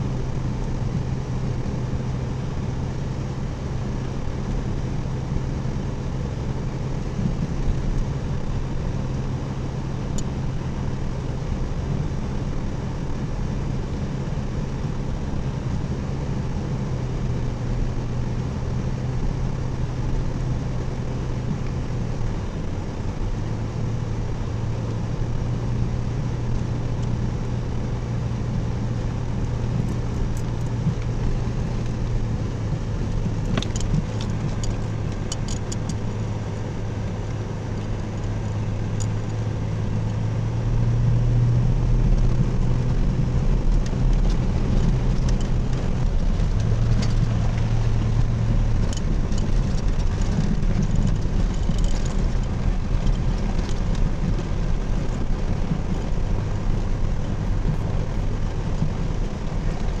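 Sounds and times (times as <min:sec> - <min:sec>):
vehicle engine and road noise: 0:00.0 - 1:00.0.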